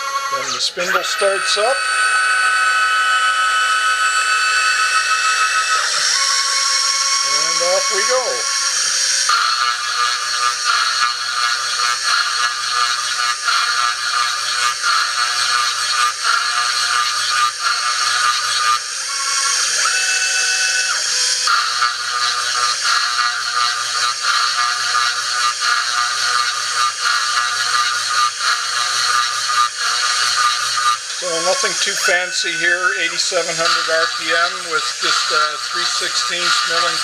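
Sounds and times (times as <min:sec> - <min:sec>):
machine motors droning: 0:00.0 - 0:37.0
milling spindle whining: 0:00.0 - 0:37.0.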